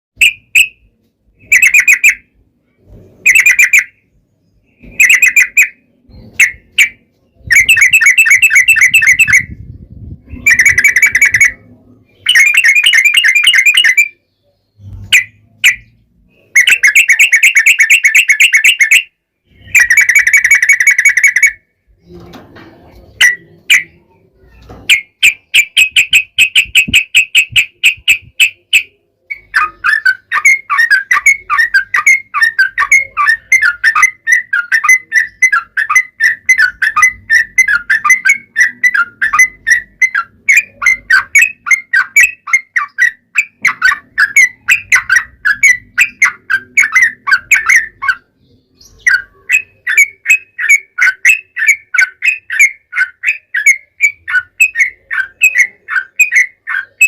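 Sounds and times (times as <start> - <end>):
bird singing rolling chattering song: 0.2 - 57.0.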